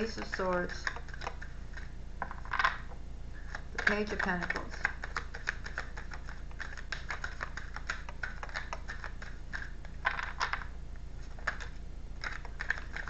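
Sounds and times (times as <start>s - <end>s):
cards being shuffled: 0.0s - 2.8s, 3.4s - 13.0s.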